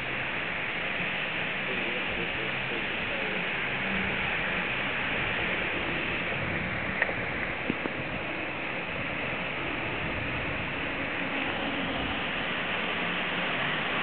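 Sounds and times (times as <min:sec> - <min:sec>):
surf on rocky shore: 0:00.0 - 0:14.0.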